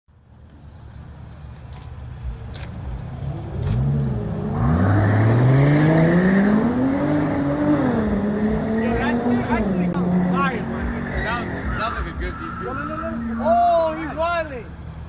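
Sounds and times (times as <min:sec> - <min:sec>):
car engine accelerating: 0:00.4 - 0:15.0.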